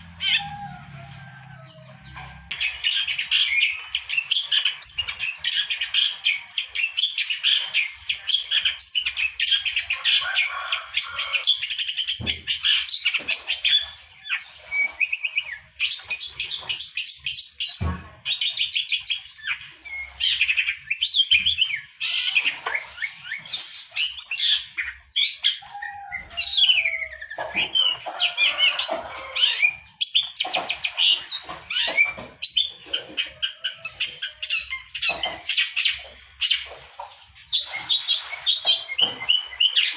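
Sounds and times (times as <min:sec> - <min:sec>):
bird singing scratchy chatter: 0:00.0 - 0:39.9.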